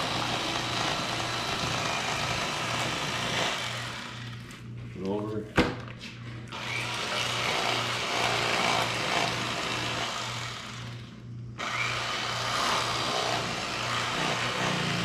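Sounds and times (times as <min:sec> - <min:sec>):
electric knife humming: 0:00.0 - 0:04.7, 0:06.5 - 0:15.0.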